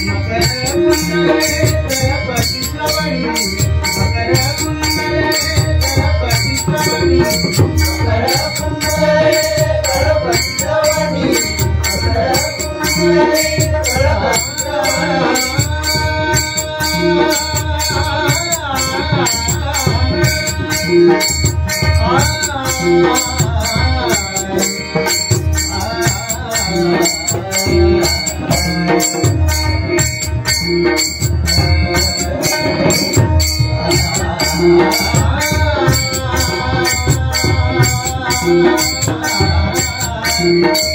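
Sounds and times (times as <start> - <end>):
pakhawaj and tabla drumming: 0.0 - 40.9.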